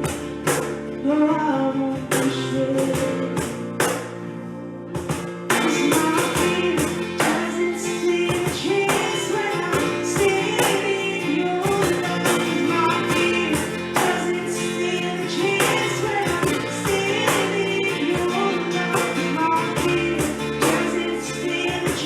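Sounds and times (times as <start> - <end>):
band playing worship song: 0.0 - 22.0
person singing: 0.9 - 3.7, 5.5 - 22.0.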